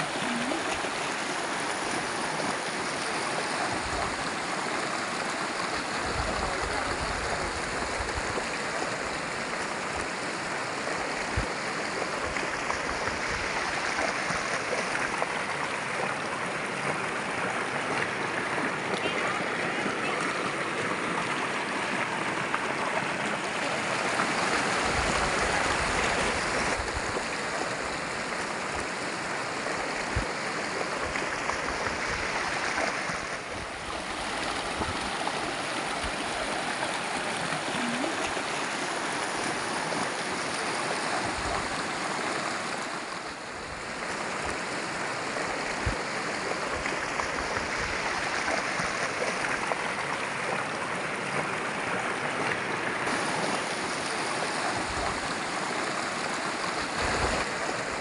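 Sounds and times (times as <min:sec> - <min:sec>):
river rushing over boulders: 0:00.0 - 0:58.0.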